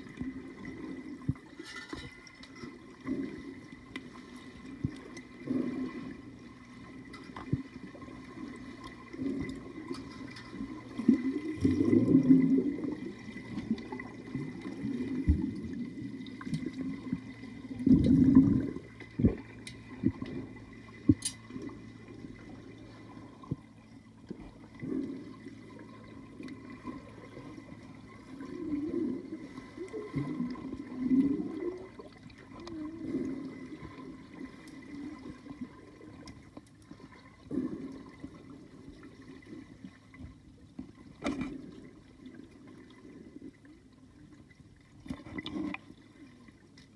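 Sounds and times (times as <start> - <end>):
faint steady hum: 0.0 - 46.9
underwater rushing and bubbling: 0.0 - 46.9.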